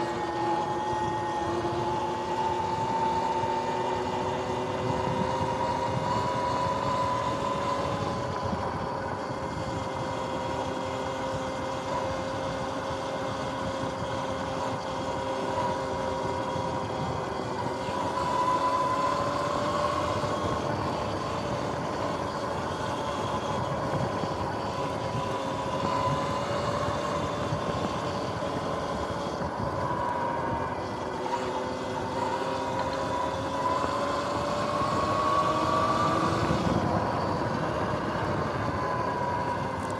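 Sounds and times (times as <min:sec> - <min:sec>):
constant rushing noise: 0:00.0 - 0:39.9
electric dirt bike whining: 0:00.0 - 0:39.9.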